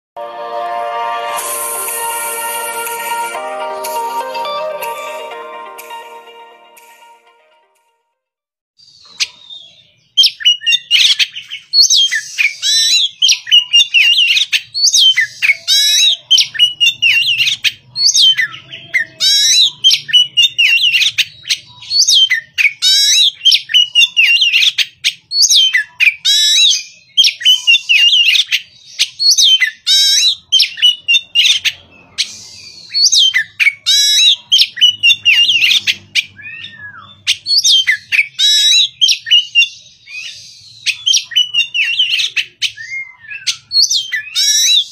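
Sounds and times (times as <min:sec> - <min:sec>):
bird singing whistles and chatters: 0:08.8 - 0:44.9.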